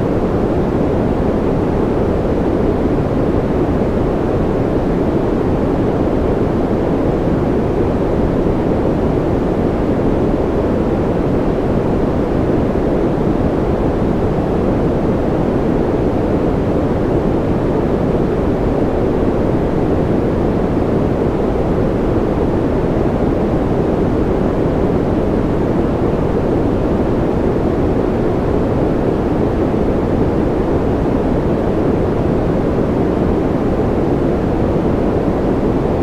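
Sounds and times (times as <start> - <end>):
deep white noise: 0.0 - 36.0.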